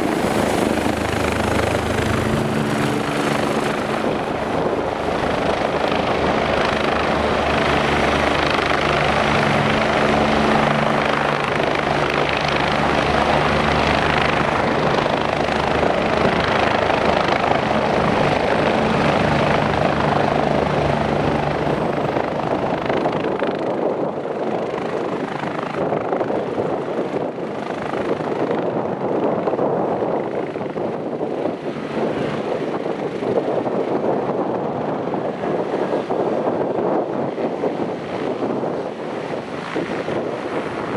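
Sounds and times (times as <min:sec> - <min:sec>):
helicopter rotor beat: 0:00.0 - 0:40.9
helicopter turbine noise: 0:00.0 - 0:40.9.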